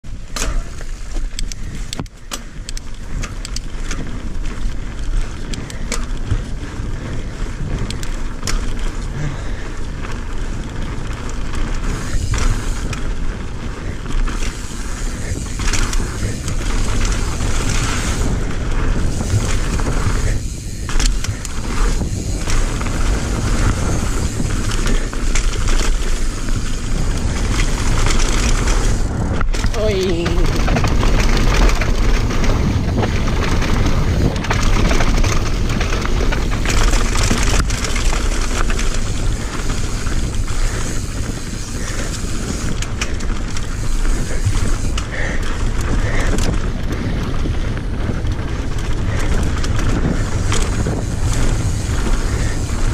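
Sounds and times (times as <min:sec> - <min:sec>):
bike clicks and rattles: 0:00.0 - 0:52.9
tyres on dirt and gravel: 0:00.0 - 0:52.9
wind rushing over microphone: 0:00.0 - 0:52.9.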